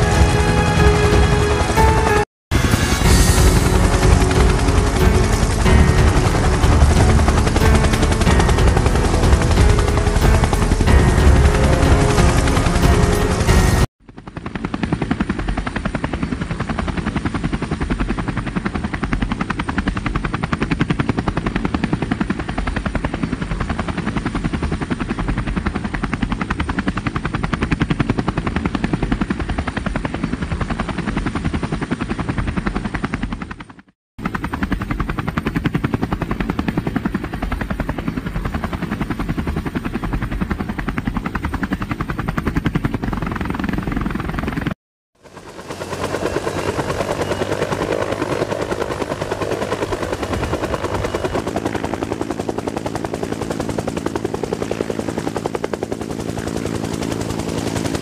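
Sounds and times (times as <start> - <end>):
helicopter rotor blades chopping: 0.0 - 58.0.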